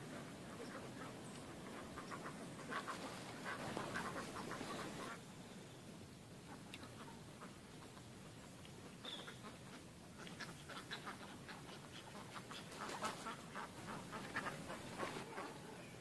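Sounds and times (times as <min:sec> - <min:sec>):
ducks quacking: 0:00.0 - 0:05.3, 0:06.4 - 0:16.0.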